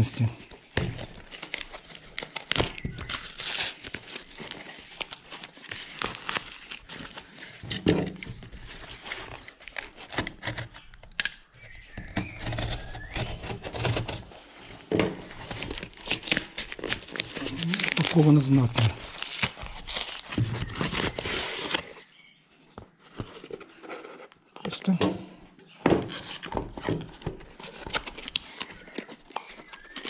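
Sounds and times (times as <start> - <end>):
plastic mailer crinkling and tearing: 0.0 - 14.6, 15.2 - 22.2, 26.0 - 30.0.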